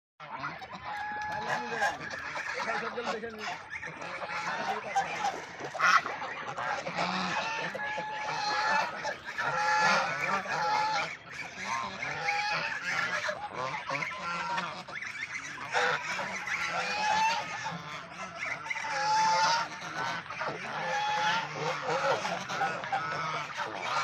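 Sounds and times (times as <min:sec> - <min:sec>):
geese honking: 0:00.2 - 0:24.0.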